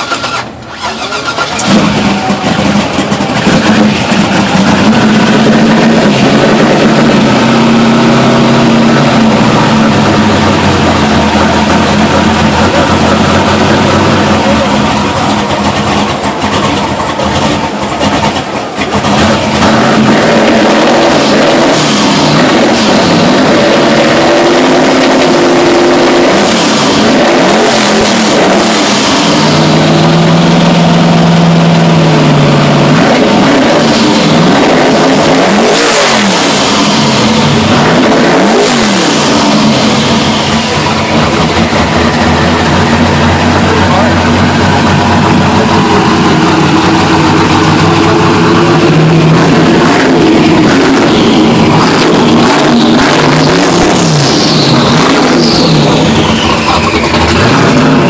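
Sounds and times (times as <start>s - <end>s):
pickup truck engine idling and revving: 0.0s - 58.0s.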